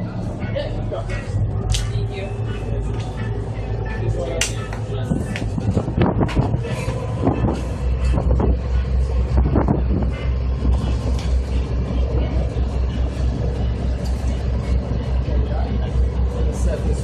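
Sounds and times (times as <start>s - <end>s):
motor boat engine rumble: 0.0s - 17.0s.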